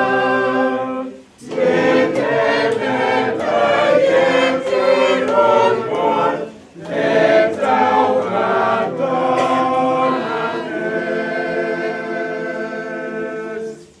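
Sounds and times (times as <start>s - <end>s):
choir singing: 0.0s - 14.0s.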